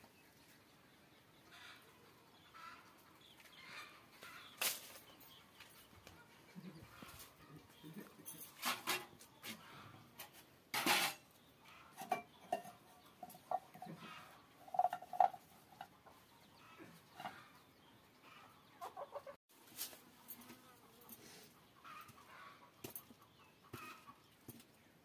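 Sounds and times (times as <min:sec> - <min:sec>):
chickens clucking: 0:01.4 - 0:24.4.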